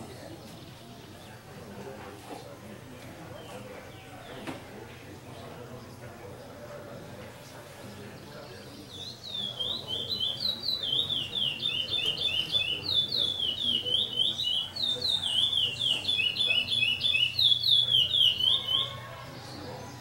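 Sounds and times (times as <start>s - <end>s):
songbird singing: 0.0s - 2.0s, 3.0s - 20.0s.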